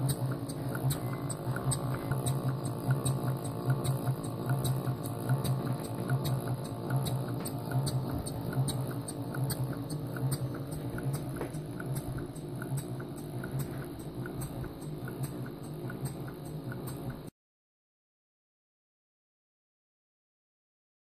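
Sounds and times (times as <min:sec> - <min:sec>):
low pulsing hum: 0:00.0 - 0:17.3
model steam engine ticking: 0:00.0 - 0:17.3.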